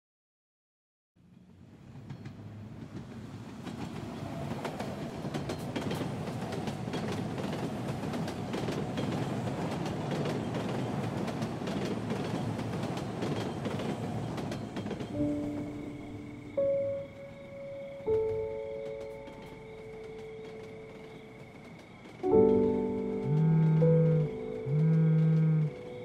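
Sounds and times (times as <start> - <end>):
train rumbling on rails: 1.2 - 26.0.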